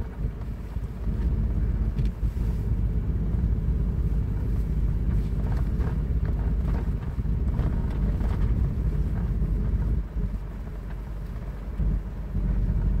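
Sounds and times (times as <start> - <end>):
engine and tyres rumbling on snow: 0.0 - 13.0
wind buffeting microphone: 0.0 - 13.0.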